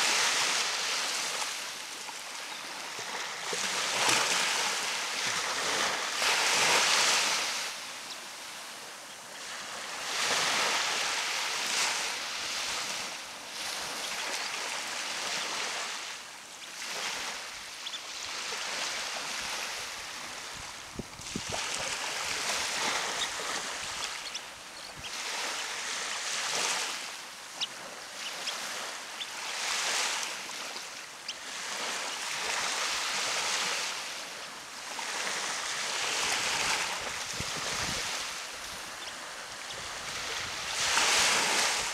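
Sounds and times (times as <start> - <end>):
ocean surf washing onto beach: 0.0 - 41.9.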